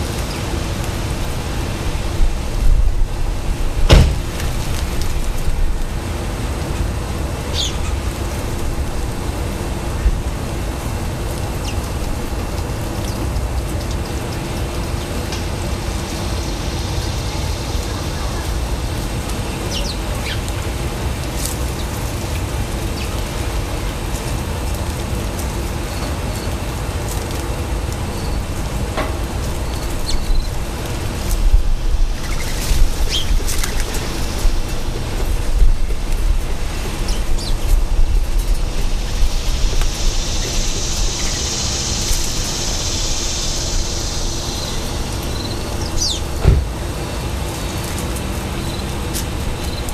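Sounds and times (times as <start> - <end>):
low outdoor rumble: 0.0 - 49.9.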